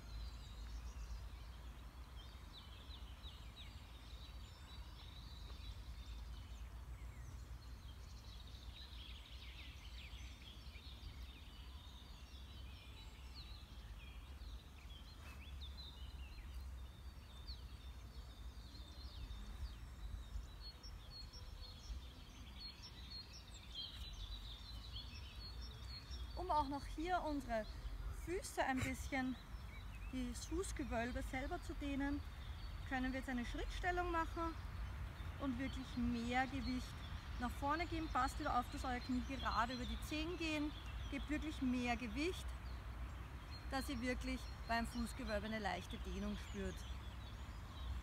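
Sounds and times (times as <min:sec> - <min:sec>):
birds chirping and singing: 0:00.0 - 0:48.0.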